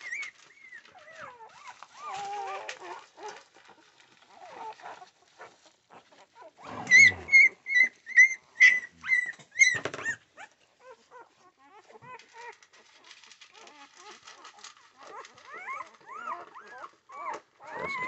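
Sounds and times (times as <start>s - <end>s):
puppies whining and squeaking: 0.0s - 18.0s.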